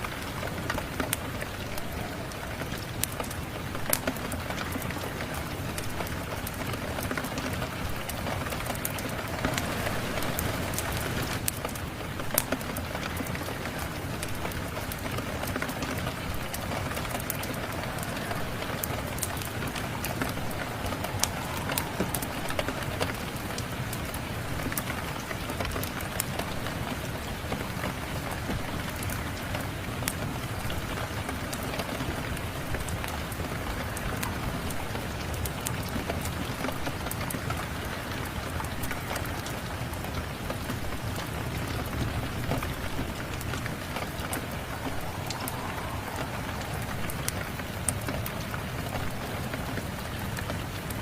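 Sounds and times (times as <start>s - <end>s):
steady rain: 0.0s - 51.0s
wood fire crackling: 0.0s - 51.0s.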